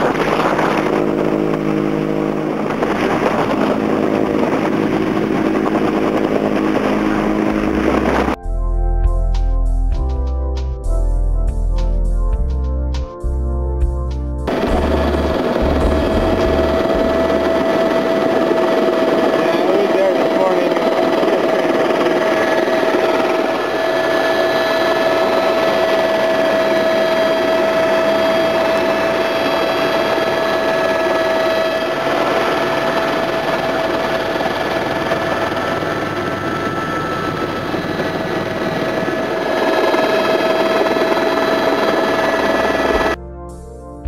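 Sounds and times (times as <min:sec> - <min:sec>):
helicopter engine and rotor noise: 0:00.0 - 0:08.4, 0:14.4 - 0:43.2
constant high whine: 0:00.0 - 0:44.0.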